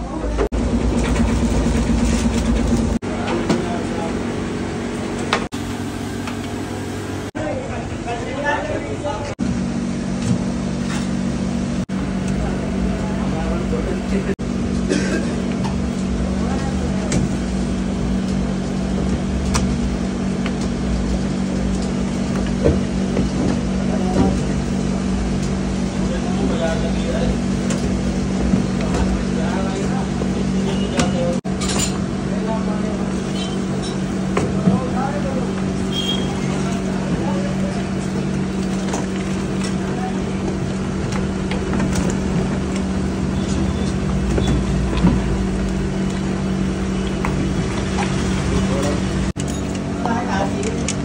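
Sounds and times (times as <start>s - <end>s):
machinery hum: 0.0s - 51.0s.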